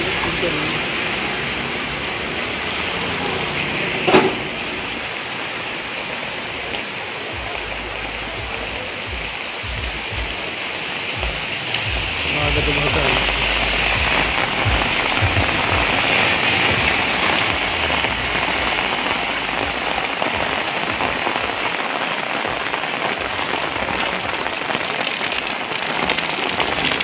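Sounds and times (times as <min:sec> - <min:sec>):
heavy rain on wet street: 0:00.0 - 0:27.0.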